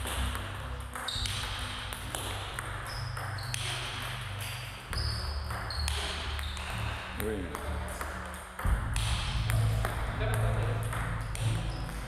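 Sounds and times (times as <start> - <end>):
ping-pong balls clicking: 0.0 - 12.0.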